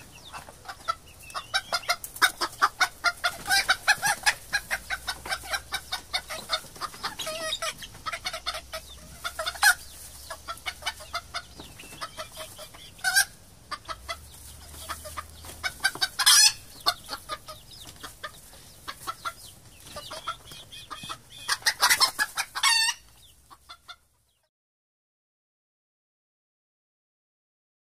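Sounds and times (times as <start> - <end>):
hens clucking: 0.0 - 24.5.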